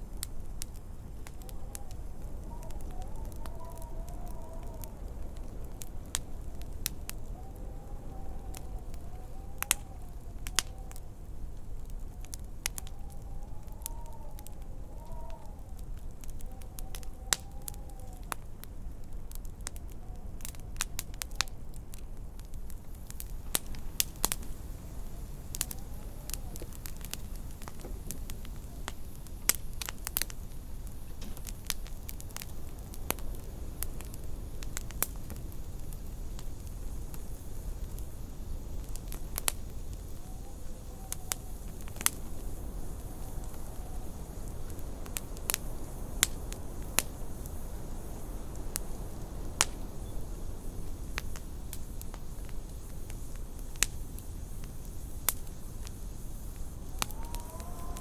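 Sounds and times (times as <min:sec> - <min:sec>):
faint wind howl: 0:00.0 - 0:58.0
wood fire crackling and popping: 0:00.0 - 0:58.0.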